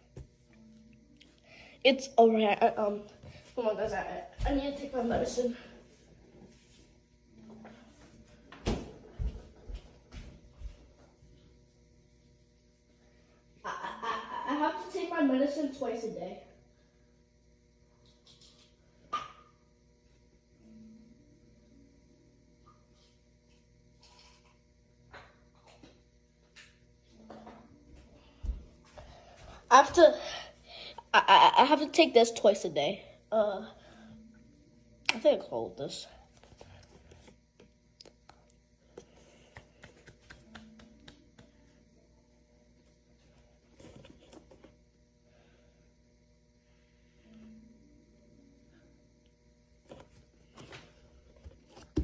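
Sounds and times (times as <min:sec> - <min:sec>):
faint hum: 0:00.0 - 0:52.0.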